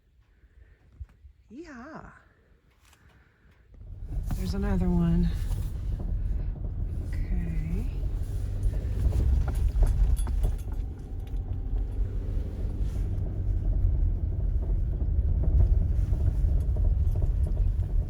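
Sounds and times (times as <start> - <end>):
low rumble of engine and tyres: 2.7 - 18.0
clicks and knocks from rough road: 2.9 - 18.0.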